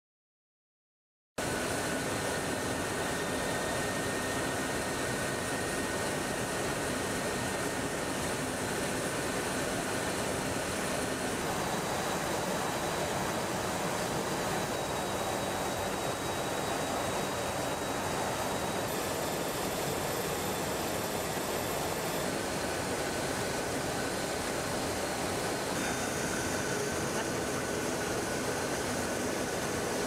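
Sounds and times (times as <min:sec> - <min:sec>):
airflow and jet engine noise: 0:01.4 - 0:30.0
faint high whine: 0:01.4 - 0:30.0.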